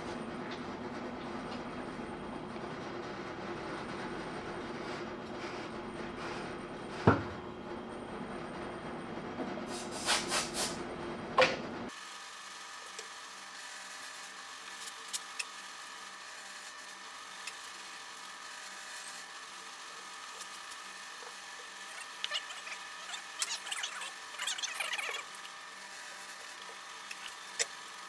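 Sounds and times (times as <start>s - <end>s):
workshop machine drone: 0.0s - 28.0s.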